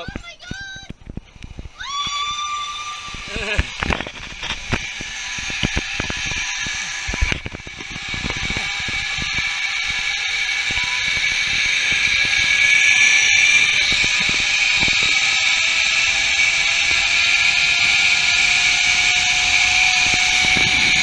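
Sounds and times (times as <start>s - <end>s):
wind on microphone: 0.0s - 21.0s
zip line pulleys whining: 0.0s - 21.0s.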